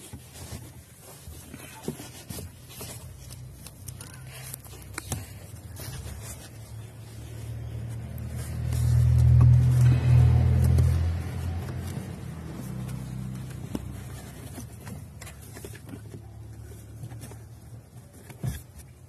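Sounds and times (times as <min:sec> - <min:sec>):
low vehicle hum: 0:00.0 - 0:19.0.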